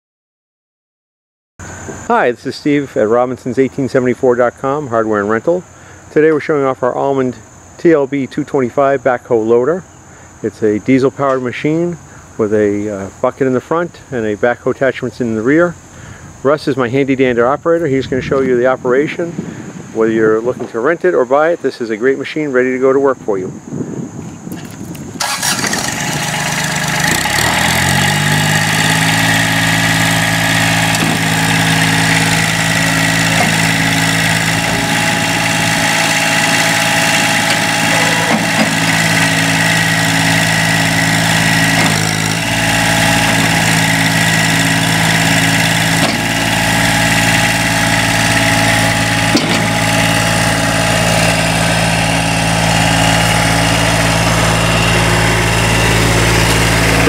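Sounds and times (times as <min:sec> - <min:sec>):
diesel engine running: 0:01.6 - 0:18.4, 0:25.2 - 0:57.0.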